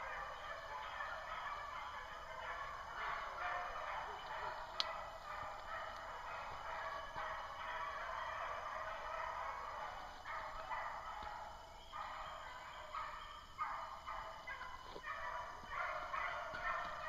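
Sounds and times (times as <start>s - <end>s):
beagles baying in chorus: 0.0s - 17.0s.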